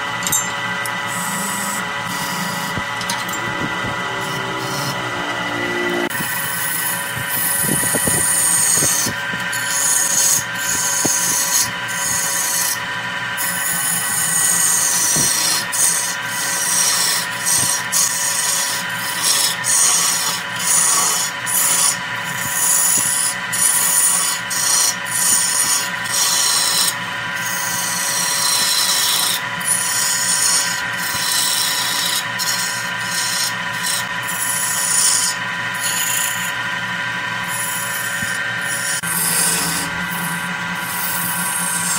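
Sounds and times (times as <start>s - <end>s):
lathe humming: 0.0s - 41.9s
gouge cutting wood on lathe: 0.8s - 41.9s.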